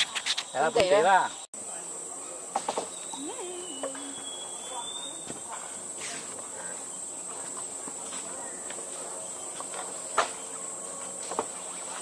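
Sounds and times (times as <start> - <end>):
rainforest insects droning: 0.0 - 12.0.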